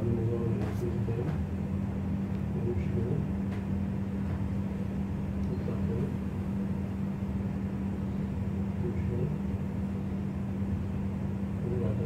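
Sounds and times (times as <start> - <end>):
low hum with constant tone: 0.0 - 12.0.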